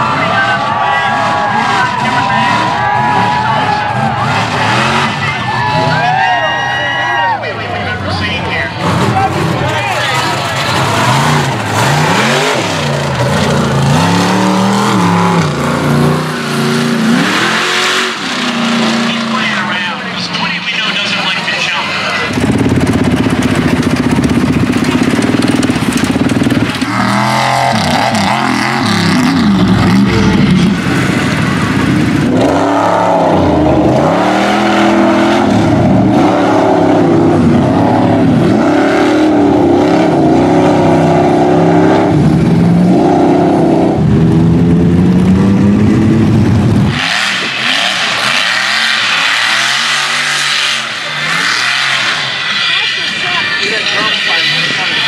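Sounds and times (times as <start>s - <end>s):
truck engines revving: 0.0s - 55.0s.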